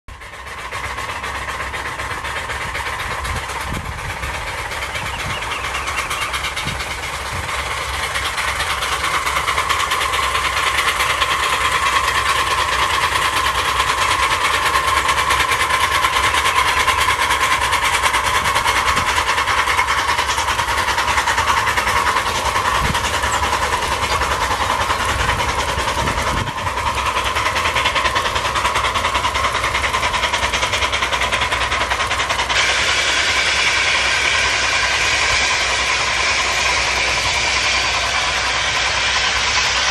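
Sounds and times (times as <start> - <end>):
miniature train running: 0.1 - 39.9.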